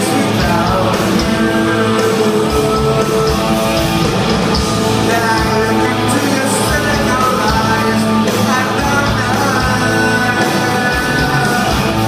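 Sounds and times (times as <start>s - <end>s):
bass guitar: 0.0s - 12.0s
drums: 0.0s - 12.0s
electric guitars: 0.0s - 12.0s
lead vocal singing: 0.0s - 12.0s.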